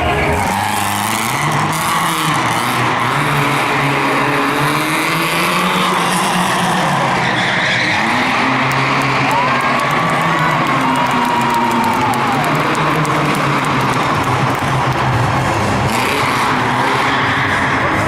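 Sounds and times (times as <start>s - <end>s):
car engine at high revs: 0.0s - 18.0s
tyres skidding and squealing: 0.0s - 18.0s.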